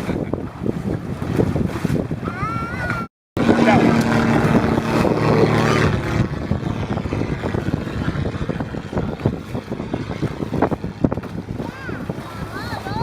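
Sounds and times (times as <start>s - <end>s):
motorboat engine humming: 0.0s - 13.0s
water splashing against hull: 0.0s - 13.0s
wind rushing over microphone: 0.0s - 13.0s.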